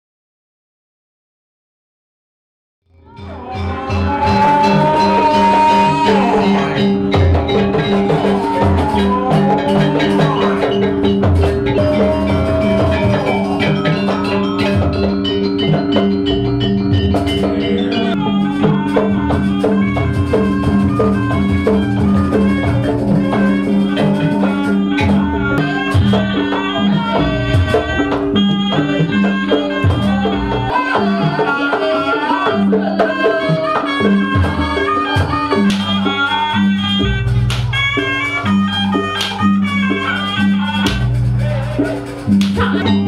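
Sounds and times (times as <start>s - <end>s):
struck metal percussion: 3.0s - 32.0s, 32.6s - 43.0s
hand-drum strokes: 3.0s - 43.0s
melody line: 3.1s - 41.0s.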